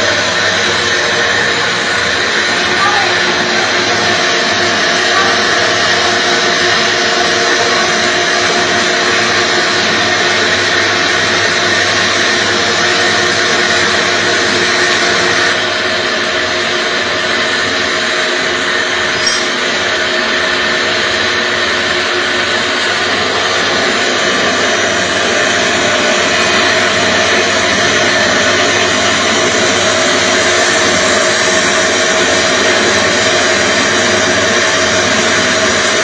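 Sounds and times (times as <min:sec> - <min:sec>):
drilling machine running: 0:00.0 - 0:36.0.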